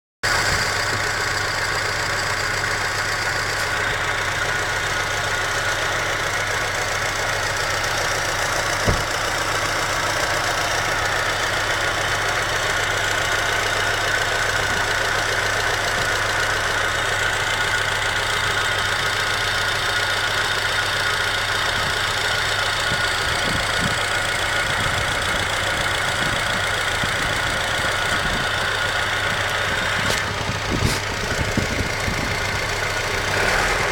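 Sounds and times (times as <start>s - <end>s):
car engine idling: 0.2s - 33.9s
engine lifters tapping: 0.5s - 18.6s, 21.3s - 33.9s.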